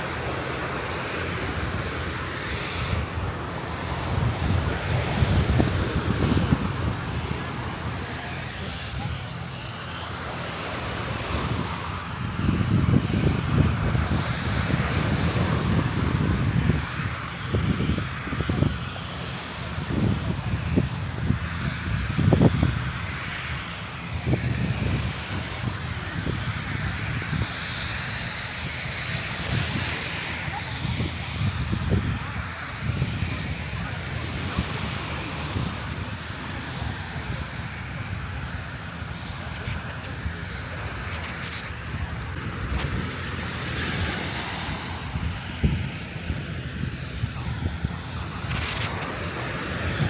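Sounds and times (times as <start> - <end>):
beach surf: 0.0 - 50.0
jet engines roaring overhead: 0.0 - 50.0
wind buffeting microphone: 0.0 - 50.0.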